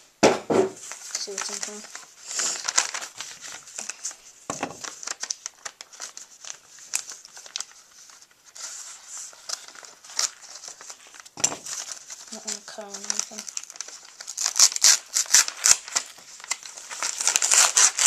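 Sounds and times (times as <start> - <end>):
package crinkling and rustling: 0.8 - 18.0.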